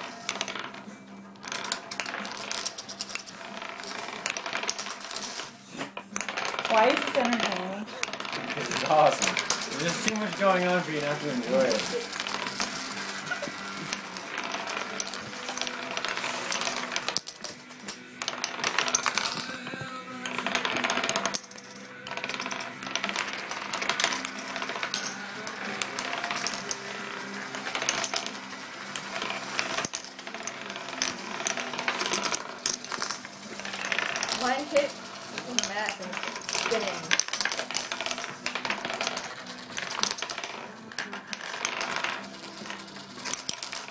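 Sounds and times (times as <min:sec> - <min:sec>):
music: 0:00.0 - 0:43.9
wooden discs clattering on a table: 0:00.0 - 0:43.9.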